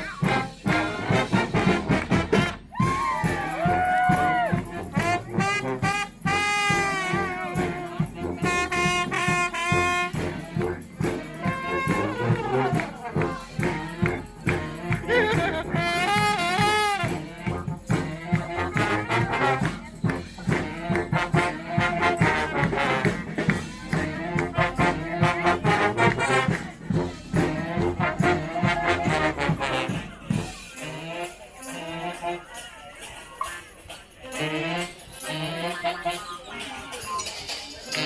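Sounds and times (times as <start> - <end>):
steady drum beat: 0.0 - 31.1
brass band horns: 0.0 - 38.0.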